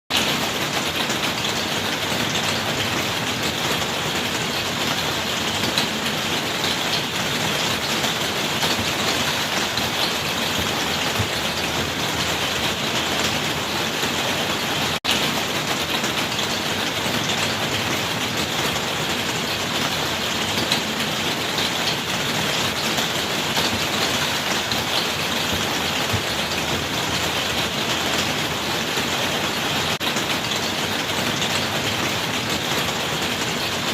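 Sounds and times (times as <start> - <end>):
steady rainfall: 0.1 - 33.9.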